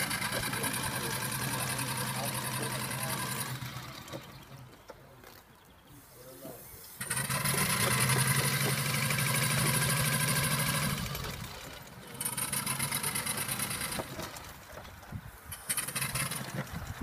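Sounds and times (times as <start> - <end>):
miniature steam engine exhaust beats: 0.0 - 4.7, 6.8 - 17.0.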